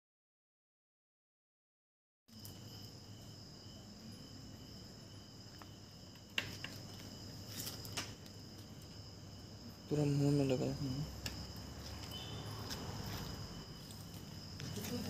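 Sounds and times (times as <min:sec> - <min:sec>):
crickets chirping: 0:02.3 - 0:15.0.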